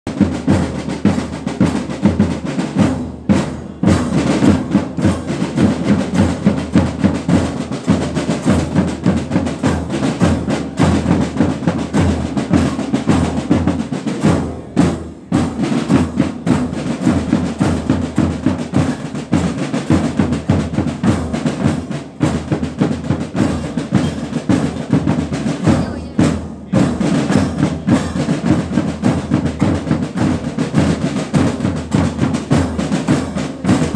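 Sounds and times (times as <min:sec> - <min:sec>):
drum line marching beat: 0:00.1 - 0:33.9.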